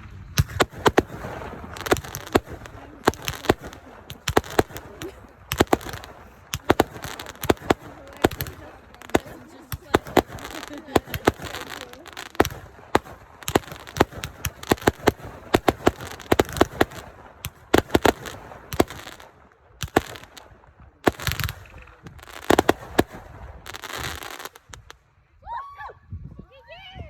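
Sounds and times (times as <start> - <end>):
fireworks crackling: 0.0 - 25.1
fireworks bangs: 0.2 - 25.0.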